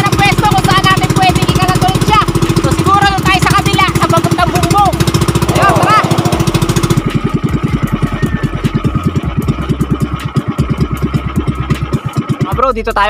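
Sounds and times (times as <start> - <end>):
motor boat engine chugging: 0.0 - 13.0.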